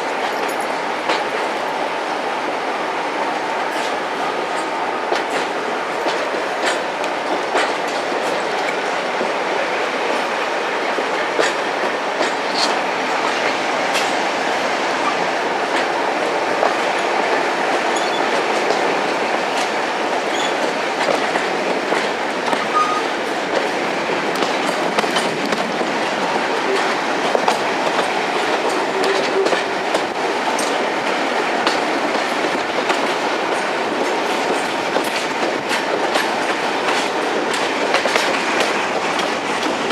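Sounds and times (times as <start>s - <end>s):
train rolling noise: 0.0s - 39.9s.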